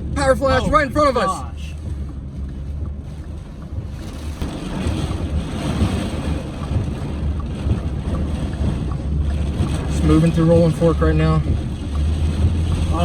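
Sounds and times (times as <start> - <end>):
low road rumble: 0.0 - 13.0
wind and heavy rain on vehicle: 0.0 - 13.0.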